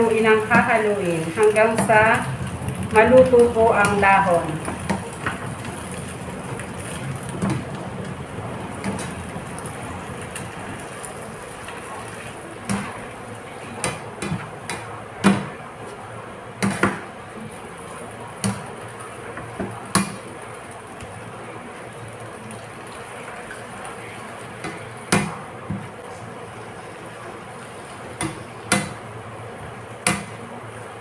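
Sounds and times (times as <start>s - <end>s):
leaves sizzling in oil: 0.0s - 31.0s.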